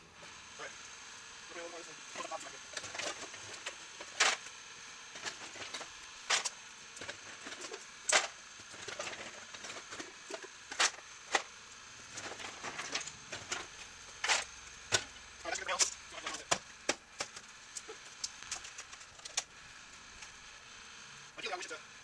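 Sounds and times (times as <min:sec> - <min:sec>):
wood fuel crackling and popping: 0:02.3 - 0:20.4.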